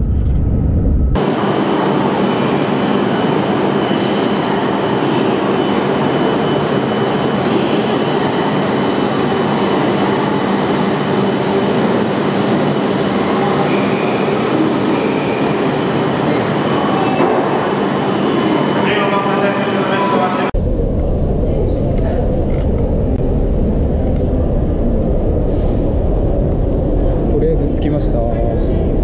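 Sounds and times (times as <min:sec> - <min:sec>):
train electrical running hum: 0:00.0 - 0:29.0.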